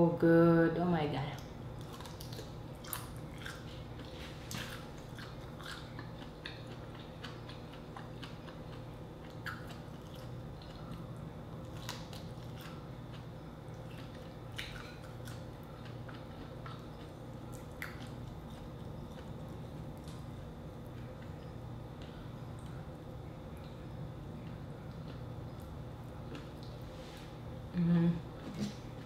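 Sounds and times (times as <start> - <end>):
steady low hum: 0.0 - 29.0
person chewing food: 1.8 - 27.4.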